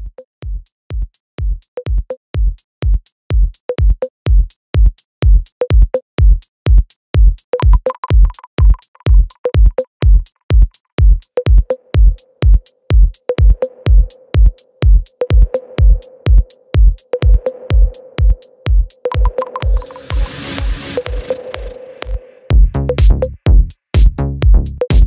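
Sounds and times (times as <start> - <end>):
techno drum machine kick: 0.0 - 25.0.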